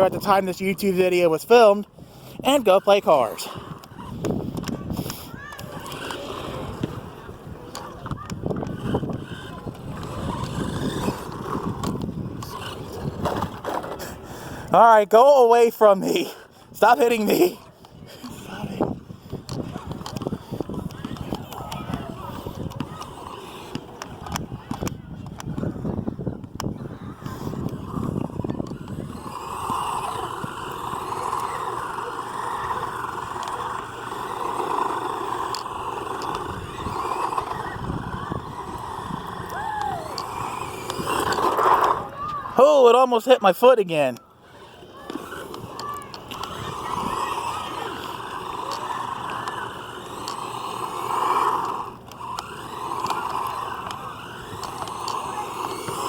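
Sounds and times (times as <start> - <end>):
toy truck electric motor whining: 2.2 - 14.8, 16.6 - 42.6, 44.2 - 56.0.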